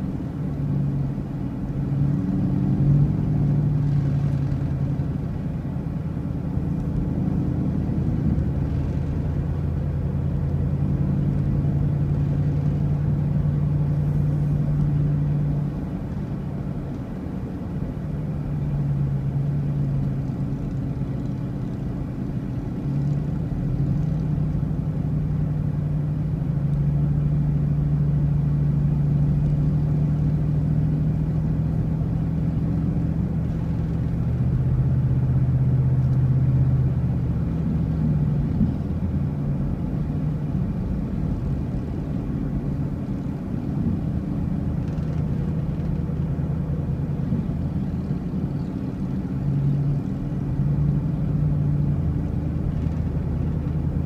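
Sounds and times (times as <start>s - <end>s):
low road rumble: 0.0s - 54.0s
vehicle engine cruising: 0.0s - 54.0s.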